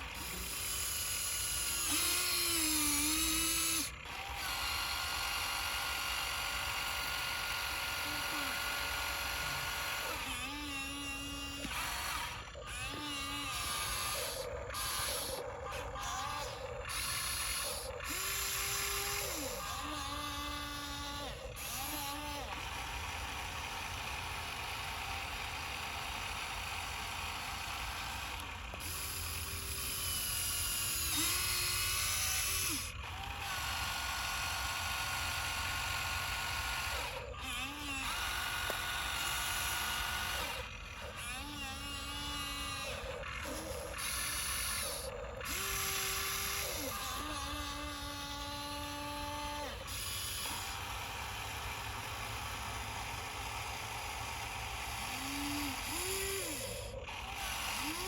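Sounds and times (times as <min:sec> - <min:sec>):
toy truck electric motors whining: 0:00.0 - 0:58.0.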